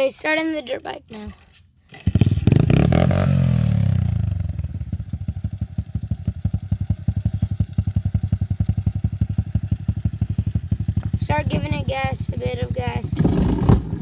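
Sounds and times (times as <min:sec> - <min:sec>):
dirt bike engine idling: 0:02.2 - 0:14.0.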